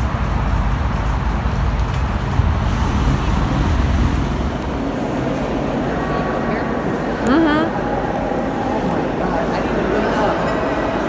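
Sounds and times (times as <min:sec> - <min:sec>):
city road traffic rumble: 0:00.0 - 0:10.0.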